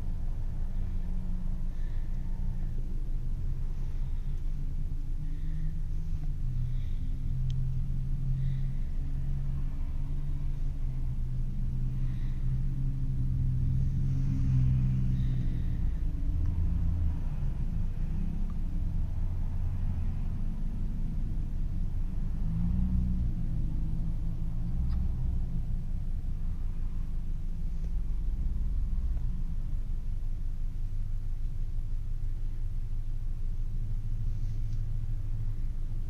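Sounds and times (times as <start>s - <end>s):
faint engine hum: 0.0s - 36.0s
road traffic rumble: 0.0s - 36.0s.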